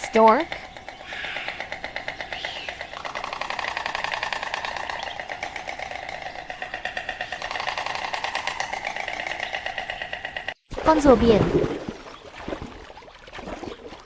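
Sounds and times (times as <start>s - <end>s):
stork clattering bill: 0.0s - 11.4s.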